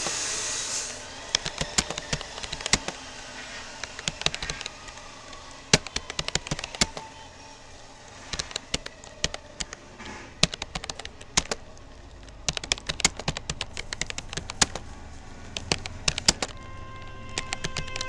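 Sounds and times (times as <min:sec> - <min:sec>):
steady multi-pitch tone: 0:00.0 - 0:12.9, 0:13.6 - 0:18.0
keyboard key clicks: 0:01.3 - 0:07.4, 0:08.2 - 0:18.0.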